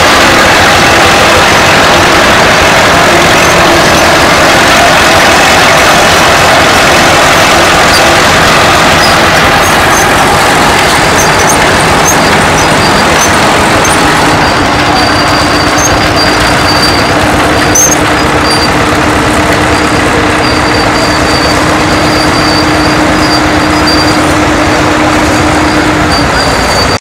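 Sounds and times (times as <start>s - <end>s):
steady drone: 0.0s - 27.0s
tractor engines running: 0.0s - 27.0s.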